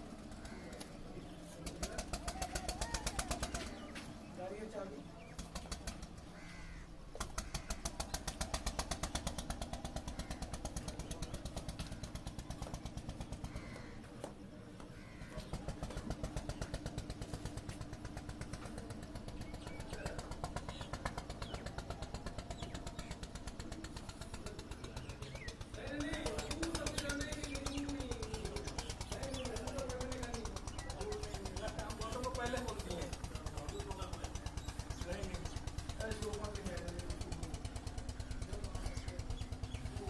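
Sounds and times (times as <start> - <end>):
small engine chugging: 0.0 - 40.0.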